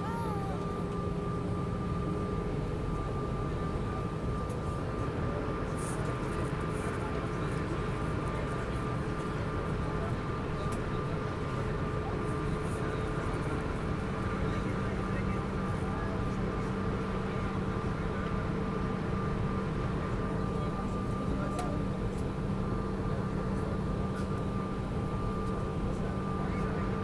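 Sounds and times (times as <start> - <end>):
jet engines idling: 0.0 - 27.0.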